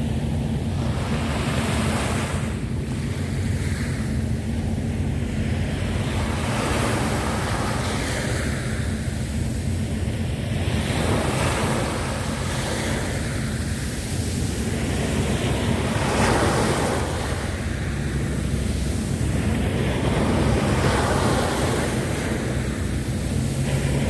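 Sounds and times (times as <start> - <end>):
sea waves washing onto shore: 0.0 - 24.0
wind rumbling on microphone: 0.0 - 24.0.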